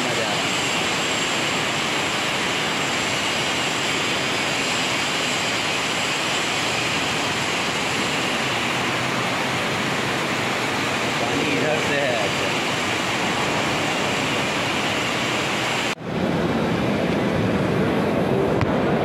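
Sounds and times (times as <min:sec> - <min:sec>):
heavy rain pouring: 0:00.0 - 0:18.5.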